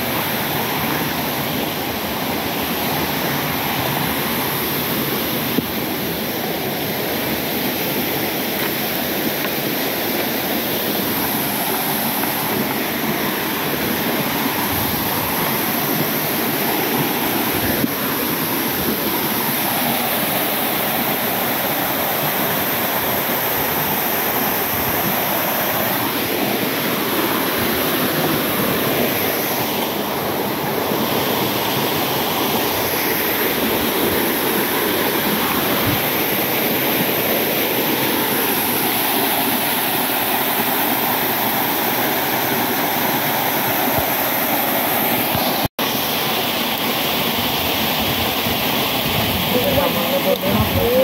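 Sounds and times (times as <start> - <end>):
waterfall splashing into pool: 0.0 - 51.0.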